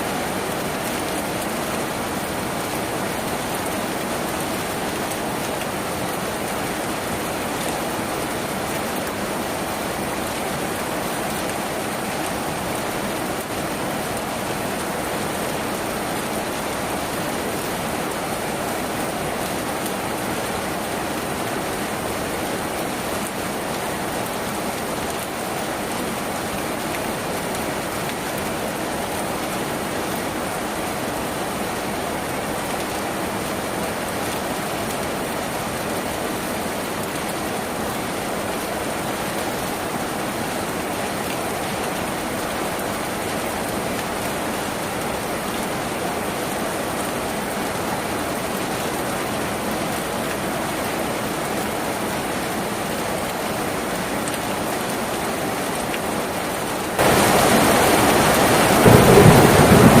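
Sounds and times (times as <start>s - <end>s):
rain on a tin roof: 0.0s - 60.0s.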